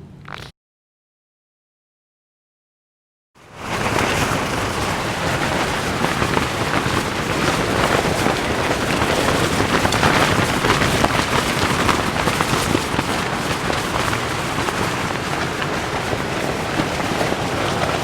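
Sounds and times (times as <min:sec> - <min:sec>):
heavy rain pouring: 0:03.4 - 0:18.0.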